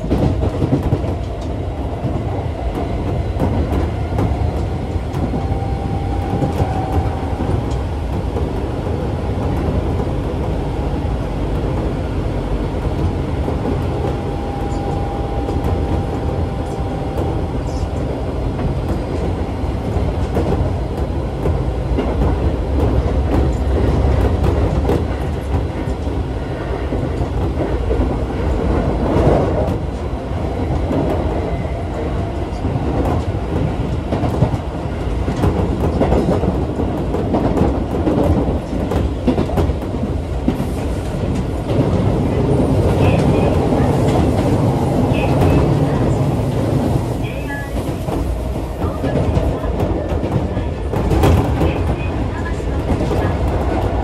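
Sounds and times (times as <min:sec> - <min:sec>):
clickety-clack of rail joints: 0:00.0 - 0:54.0
train wheels rumbling: 0:00.0 - 0:54.0.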